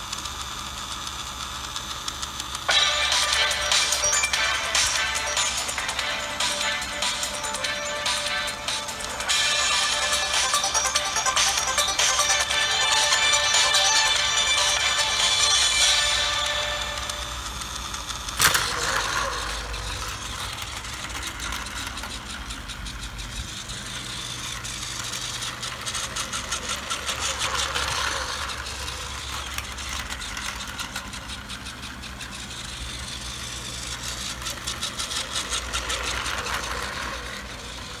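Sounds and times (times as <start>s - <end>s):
toy train motor whirring: 0.0s - 38.0s
wheels clicking on plastic track: 0.0s - 38.0s.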